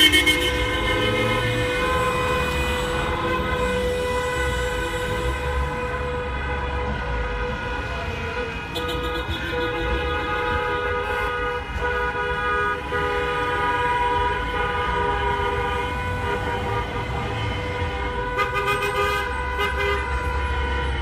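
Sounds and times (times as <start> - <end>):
car horns blasting: 0.0 - 21.0
low rumble of slow traffic: 0.0 - 21.0.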